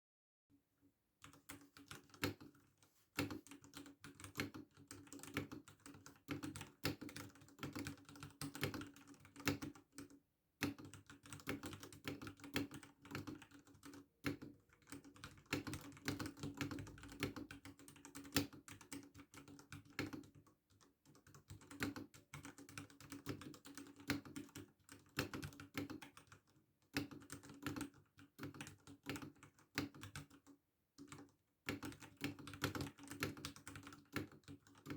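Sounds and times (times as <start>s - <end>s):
mechanical keyboard typing: 1.2s - 2.6s, 3.2s - 34.9s.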